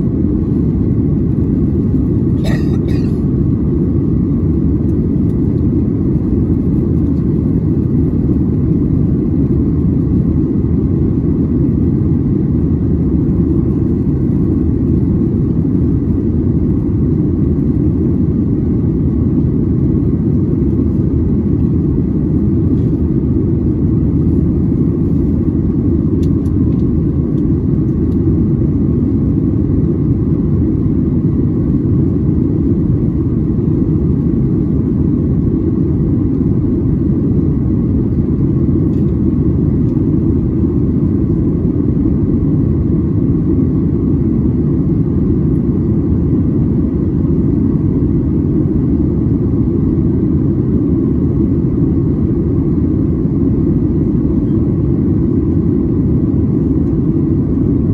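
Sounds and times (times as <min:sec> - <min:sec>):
jet engine roar: 0:00.0 - 0:57.9.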